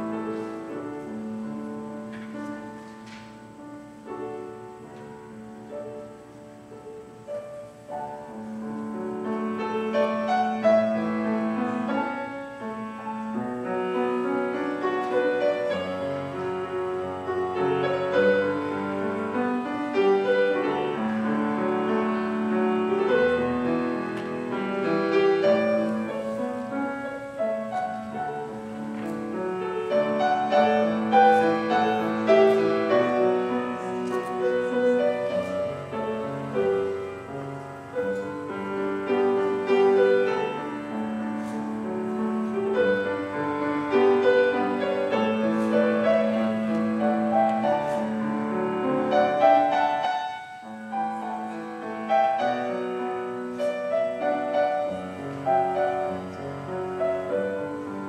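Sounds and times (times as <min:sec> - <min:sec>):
classical piano piece: 0:00.0 - 0:58.0.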